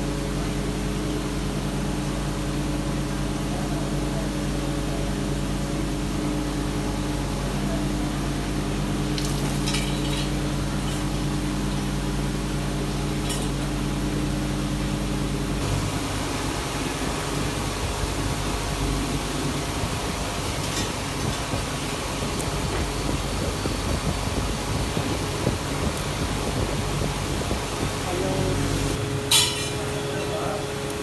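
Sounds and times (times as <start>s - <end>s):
workshop machinery humming: 0.0s - 31.0s.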